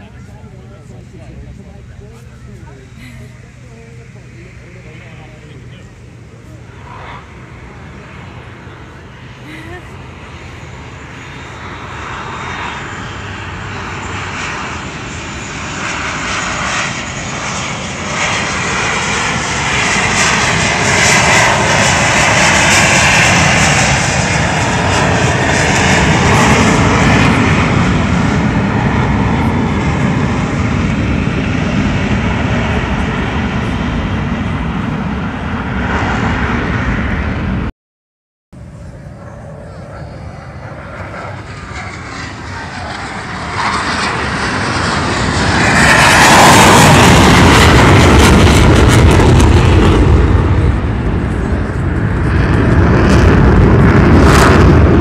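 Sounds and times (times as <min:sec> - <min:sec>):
jet engines roaring: 0:00.0 - 0:37.7, 0:38.6 - 0:55.0.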